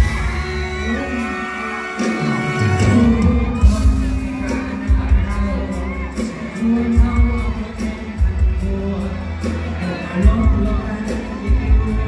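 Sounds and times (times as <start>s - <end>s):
crowd screaming and cheering: 0.0s - 12.0s
live band music with heavy bass: 0.0s - 12.0s.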